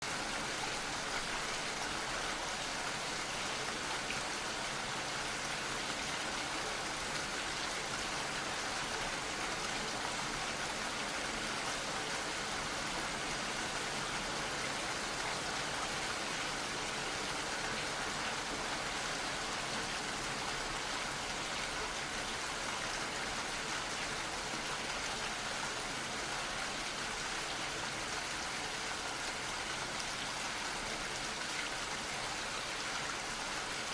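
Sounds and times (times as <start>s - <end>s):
gentle rain falling: 0.0s - 33.9s.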